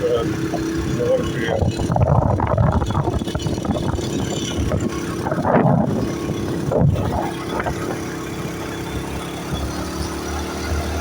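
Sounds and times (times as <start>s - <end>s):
motorcycle engine running: 0.0s - 11.0s
wind noise on microphone: 0.3s - 11.0s.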